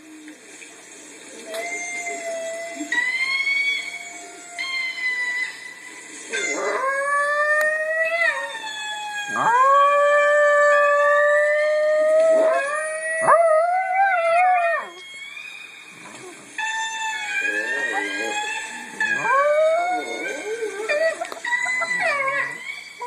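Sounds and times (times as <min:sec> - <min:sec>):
small dog howling: 0:01.5 - 0:05.5, 0:06.3 - 0:15.2, 0:17.2 - 0:23.0.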